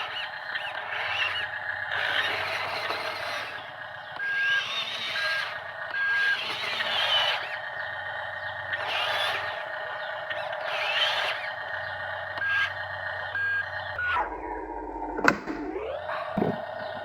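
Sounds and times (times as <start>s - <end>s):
toy motors whirring: 0.0s - 17.0s.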